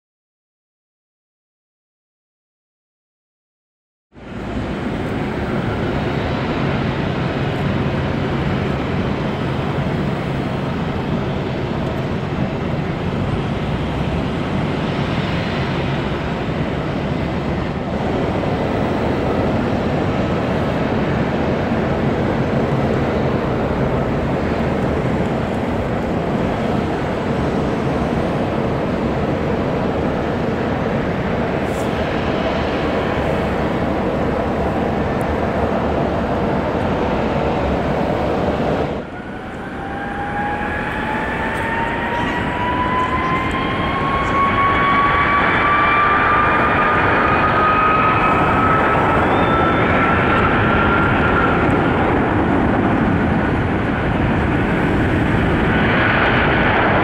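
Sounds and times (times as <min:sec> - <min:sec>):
jet engines running steadily: 0:04.1 - 0:57.0.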